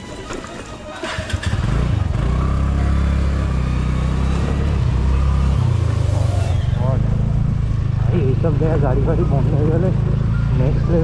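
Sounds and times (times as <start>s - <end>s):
scooter engine accelerating: 1.0s - 11.0s.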